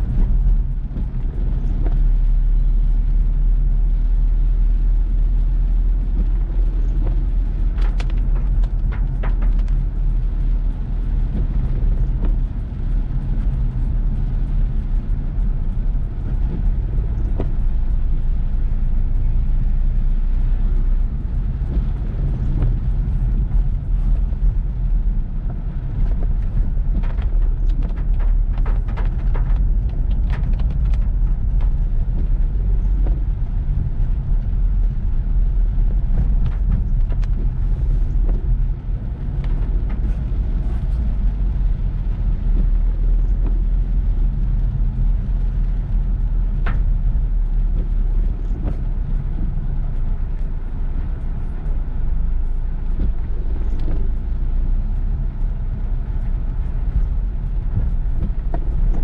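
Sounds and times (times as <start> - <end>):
car road and engine rumble: 0.0 - 59.0
heavy rain: 0.0 - 59.0.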